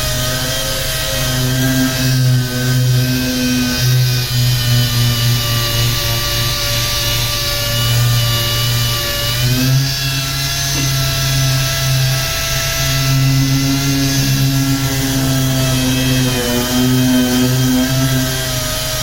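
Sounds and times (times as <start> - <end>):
power sander running: 0.0 - 19.0.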